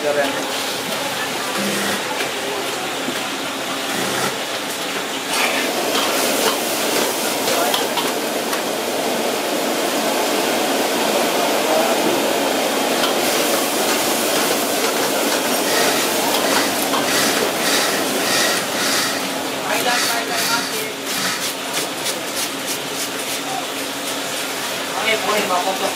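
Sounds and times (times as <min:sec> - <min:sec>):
loud sizzle of stir-frying: 0:00.0 - 0:25.9.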